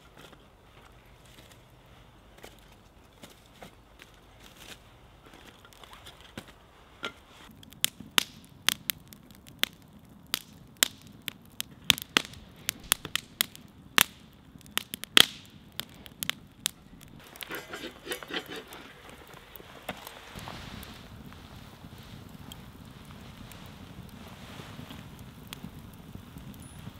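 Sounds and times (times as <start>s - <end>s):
campfire crackling: 0.0s - 26.9s
logs popping: 0.0s - 26.9s.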